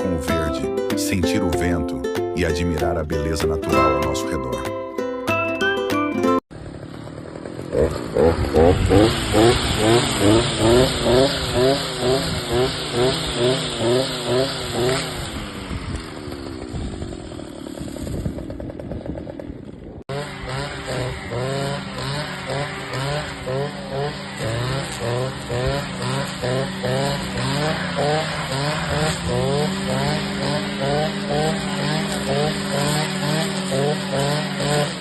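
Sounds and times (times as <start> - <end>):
brush cutter engine surging: 0.0 - 4.5, 6.5 - 35.0.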